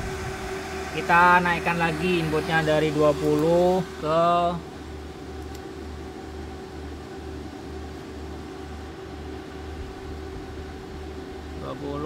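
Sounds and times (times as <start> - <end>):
constant mid-pitched tone: 0.0 - 12.0
electrical and fan hum: 0.0 - 12.0
low pulsing throb: 0.0 - 12.0.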